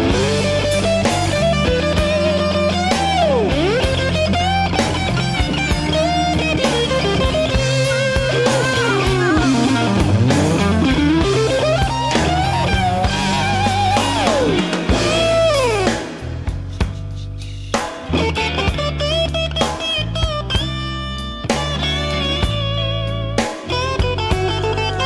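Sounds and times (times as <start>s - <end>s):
lead electric guitar solo: 0.0s - 16.2s, 18.1s - 25.0s
bass guitar: 0.0s - 25.0s
drums: 0.0s - 25.0s.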